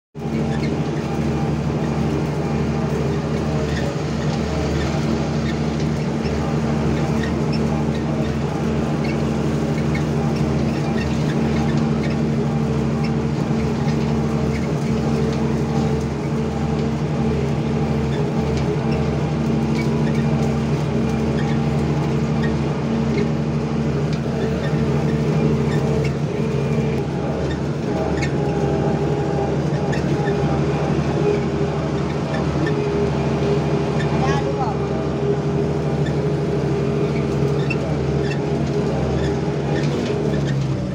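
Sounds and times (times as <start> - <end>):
combine harvester engine drone: 0.2 - 40.9
faint machine rattles: 0.2 - 40.9.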